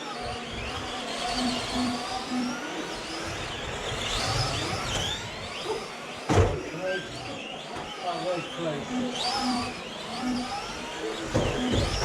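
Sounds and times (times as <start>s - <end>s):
rc truck motors whining: 0.0s - 12.0s.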